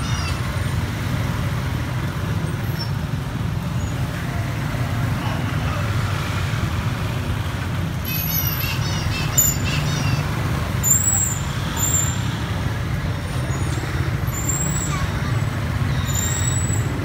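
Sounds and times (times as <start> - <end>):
motorbike traffic rumble: 0.0 - 17.0.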